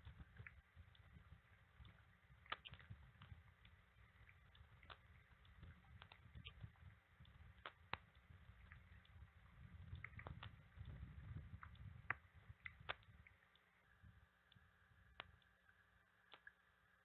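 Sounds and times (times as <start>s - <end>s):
low wind rumble: 0.0s - 15.7s
raindrops ticking on camera: 0.0s - 16.6s.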